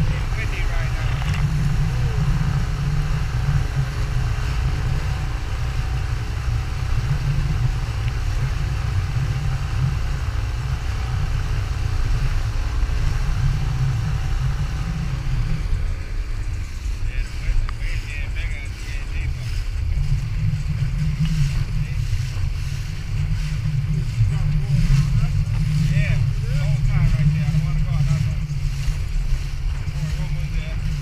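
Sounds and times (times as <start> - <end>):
outboard motor running: 0.0 - 31.0
water rushing past hull: 0.0 - 31.0.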